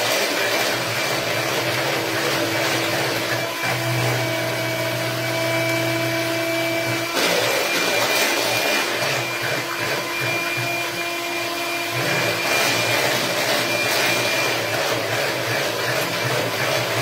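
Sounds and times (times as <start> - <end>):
electric hand mixer whisking: 0.0 - 17.0.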